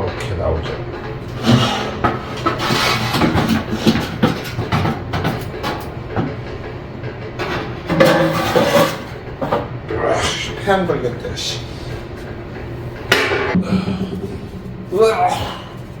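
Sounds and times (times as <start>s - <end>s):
clattering and scraping in wood stove: 0.0s - 16.0s.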